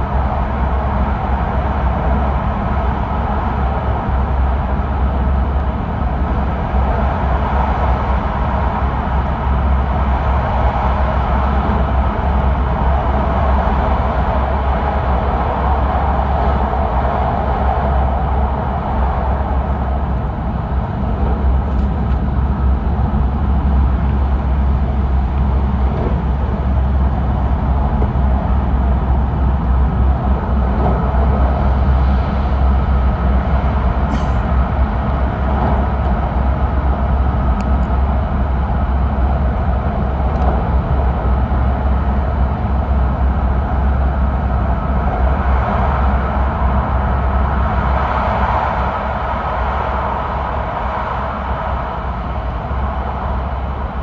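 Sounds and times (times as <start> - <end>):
train running at speed: 0.0 - 54.0.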